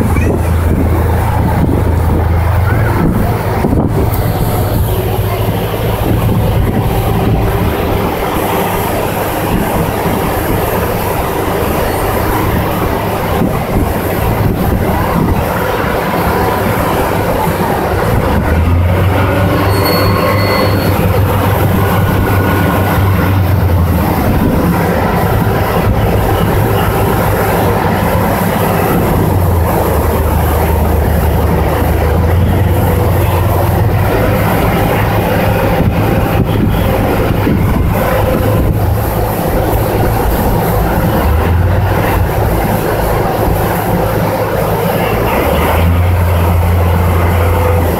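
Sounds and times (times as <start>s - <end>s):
ferry engines running: 0.0s - 47.9s.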